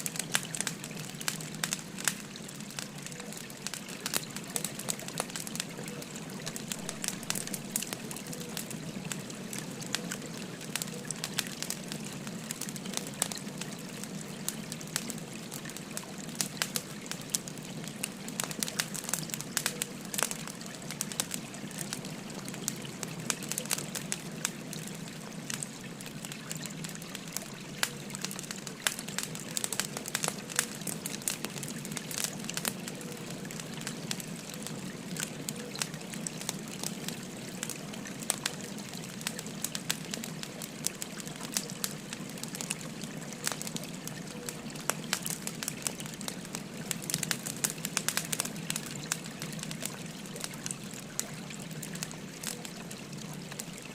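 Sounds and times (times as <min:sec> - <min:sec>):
firewood crackling: 0:00.0 - 0:53.9.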